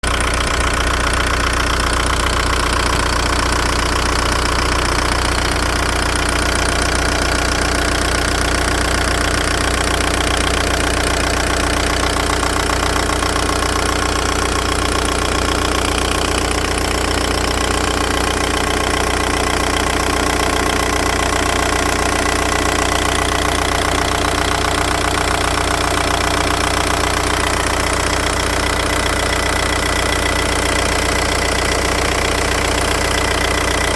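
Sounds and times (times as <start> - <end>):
clutch chattering: 0.0 - 33.9
diesel engine running: 0.0 - 33.9
fast even engine ticking: 0.0 - 33.9.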